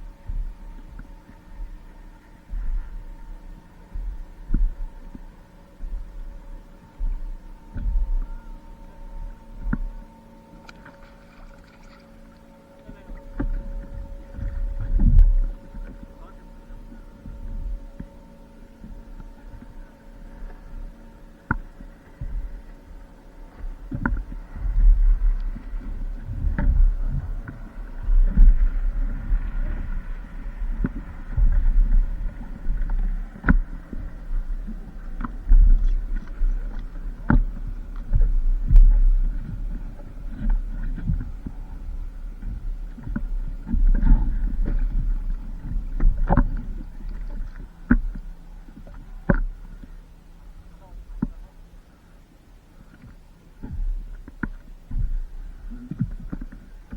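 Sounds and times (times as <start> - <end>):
heavy low rumble: 0.0 - 49.8
water sloshing against board: 6.9 - 56.9.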